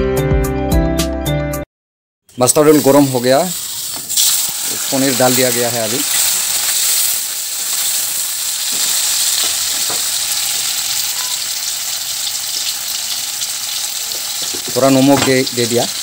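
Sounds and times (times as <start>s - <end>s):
cheese frying in hot oil: 2.4s - 16.0s.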